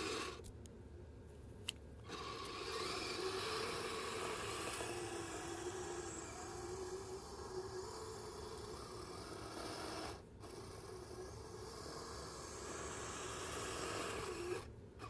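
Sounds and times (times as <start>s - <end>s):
electric motor whirring: 0.0s - 0.4s, 2.1s - 14.7s.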